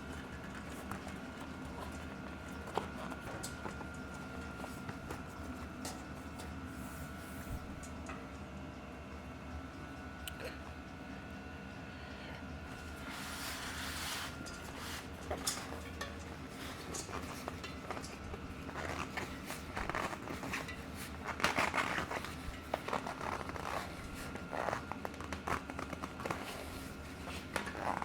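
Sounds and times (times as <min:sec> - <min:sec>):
hands working on bicycle wheel: 0:00.0 - 0:08.2, 0:12.7 - 0:28.0.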